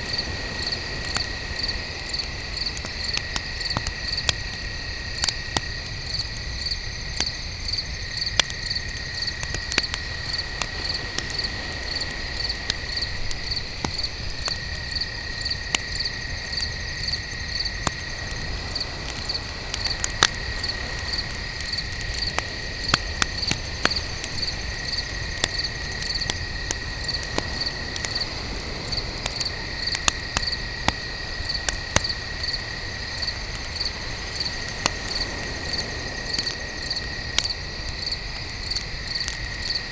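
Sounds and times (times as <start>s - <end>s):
campfire crackling: 0.0s - 39.9s
crickets chirping: 0.0s - 39.9s
insect trill: 0.0s - 39.9s.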